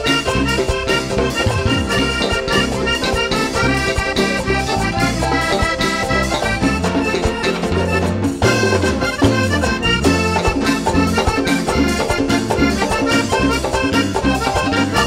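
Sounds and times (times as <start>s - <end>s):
accordion melody: 0.0s - 15.0s
steady bass line: 0.0s - 15.0s.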